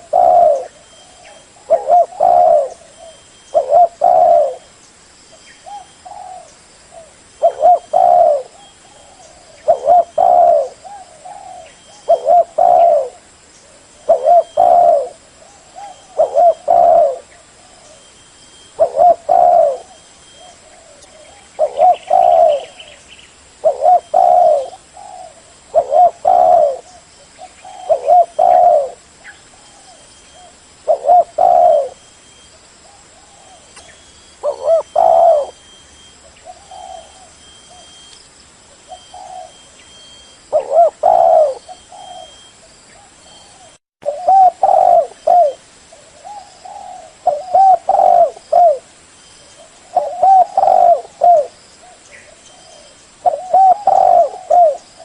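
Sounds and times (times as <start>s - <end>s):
dove cooing: 0.0s - 4.7s, 5.6s - 23.0s, 23.6s - 38.1s, 38.8s - 55.0s.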